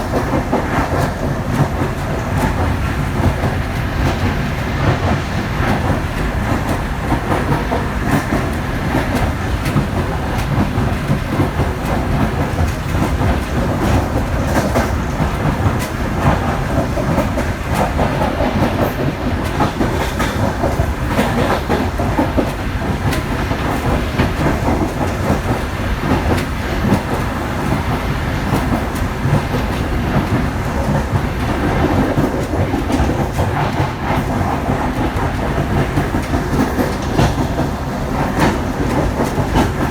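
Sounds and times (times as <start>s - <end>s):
train rumbling on rails: 0.0s - 39.9s
wheels clicking over rail joints: 0.0s - 39.9s.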